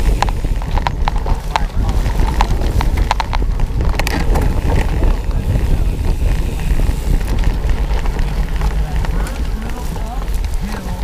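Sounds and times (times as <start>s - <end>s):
bike rumbling over grass: 0.0s - 11.0s
sharp rattling clicks: 0.0s - 11.0s
wind buffeting microphone: 0.0s - 11.0s.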